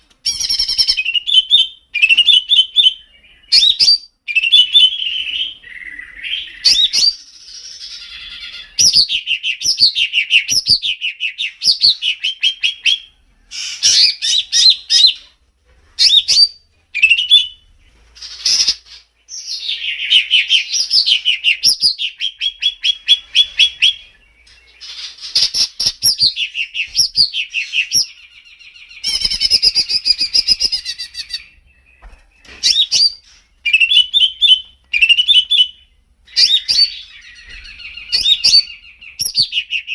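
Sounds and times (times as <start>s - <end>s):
songbird whistling and trilling: 0.2s - 15.3s, 16.0s - 39.9s.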